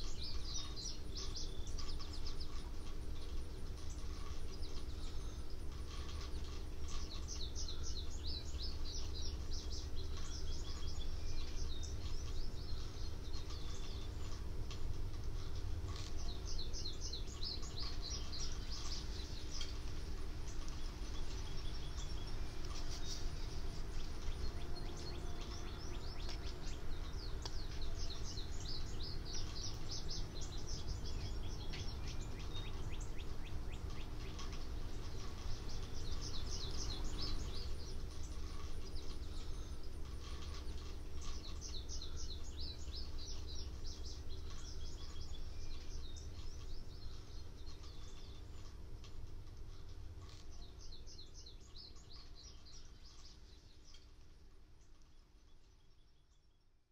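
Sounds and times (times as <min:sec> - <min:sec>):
low background rumble: 0:00.0 - 0:56.8
small birds chirping: 0:00.0 - 0:56.9.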